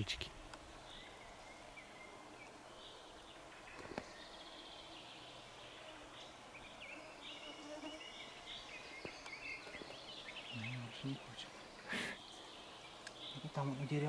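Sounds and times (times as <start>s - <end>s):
steady faint hiss: 0.0s - 14.0s.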